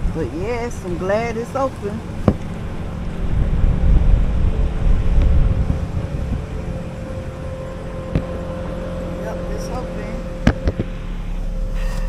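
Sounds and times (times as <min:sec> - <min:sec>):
car engine and road rumble: 0:00.0 - 0:12.0
steady hum: 0:00.0 - 0:12.0.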